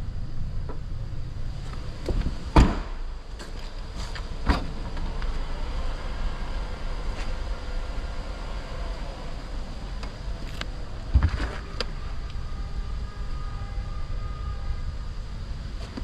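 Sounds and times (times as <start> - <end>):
machinery rumbling: 0.0 - 16.0.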